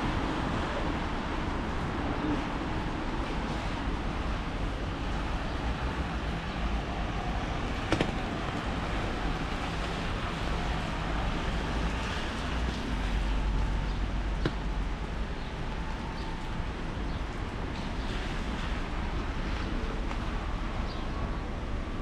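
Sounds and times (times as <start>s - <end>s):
steady rain on street: 0.0s - 22.0s.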